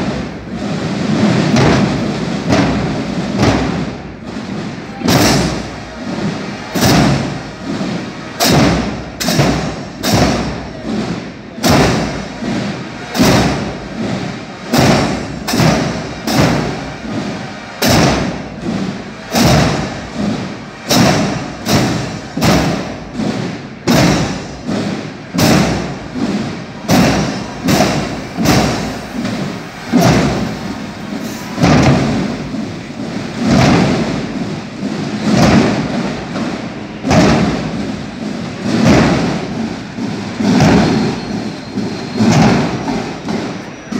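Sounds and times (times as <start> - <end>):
marching drums beating: 0.0 - 43.9.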